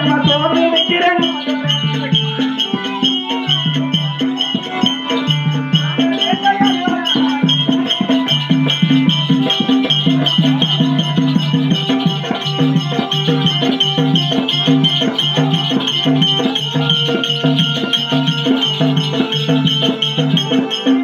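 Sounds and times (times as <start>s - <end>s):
bright ticking percussion: 0.0s - 21.0s
drum beat: 0.0s - 21.0s.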